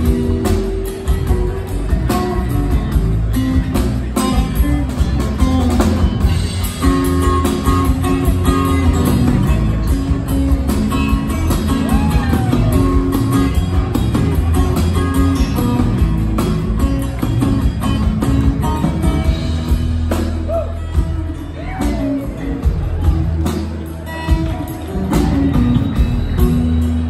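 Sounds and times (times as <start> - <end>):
drum kit: 0.0 - 27.0
upright bass: 0.0 - 27.0.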